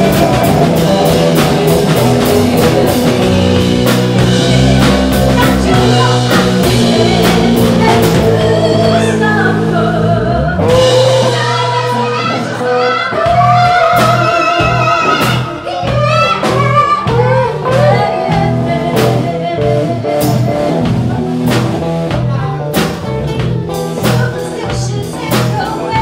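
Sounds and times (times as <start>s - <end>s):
woman singing: 0.0s - 21.2s, 23.7s - 26.0s
bass line: 0.0s - 26.0s
drum kit with cymbals: 0.0s - 26.0s
electric and acoustic guitars: 0.0s - 26.0s.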